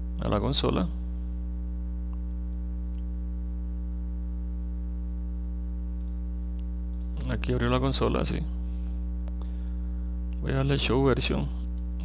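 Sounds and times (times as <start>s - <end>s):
mains hum: 0.0s - 12.0s.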